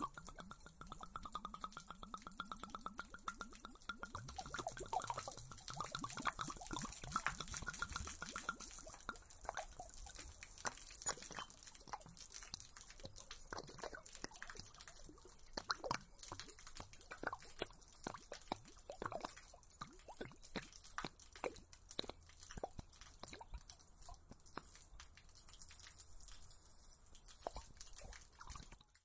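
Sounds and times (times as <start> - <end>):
liquid gurgling and dripping: 0.0 - 29.0.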